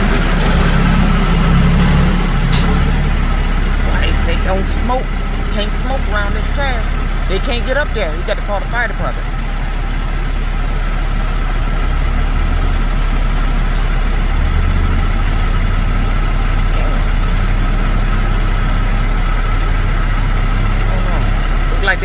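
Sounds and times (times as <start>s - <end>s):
truck engine idling: 0.0s - 22.0s
thin steady whine: 2.2s - 22.0s.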